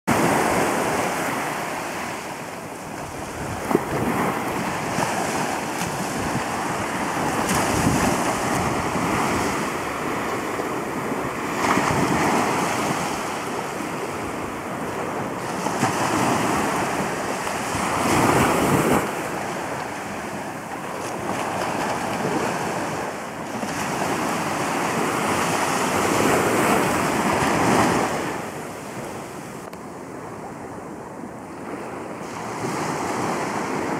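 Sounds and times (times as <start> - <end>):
small waves on sandy beach: 0.1 - 33.9
wind buffeting microphone: 0.1 - 33.9.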